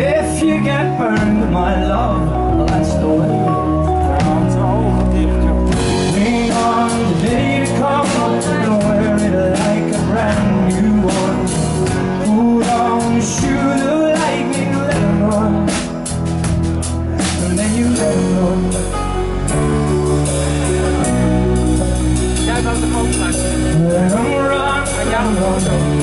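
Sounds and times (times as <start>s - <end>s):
man singing lead vocal: 0.0s - 21.4s, 22.2s - 26.0s
bass: 0.0s - 26.0s
drums: 0.0s - 26.0s.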